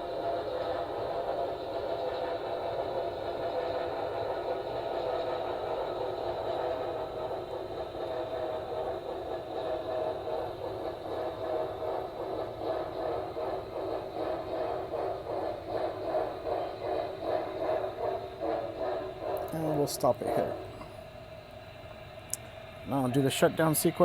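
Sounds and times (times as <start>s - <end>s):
model train steam chuffing: 0.0s - 24.0s.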